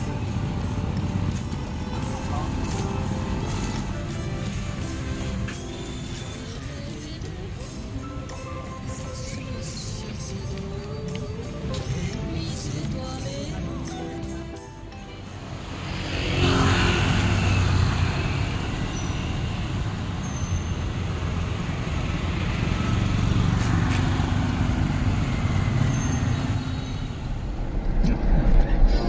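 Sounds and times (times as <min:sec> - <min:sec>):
street traffic passing: 0:00.0 - 0:29.0.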